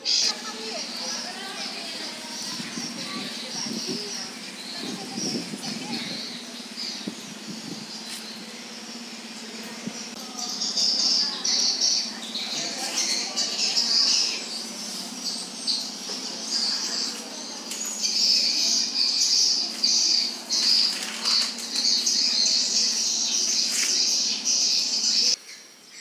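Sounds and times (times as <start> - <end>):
small animals chirping: 0.0 - 25.4.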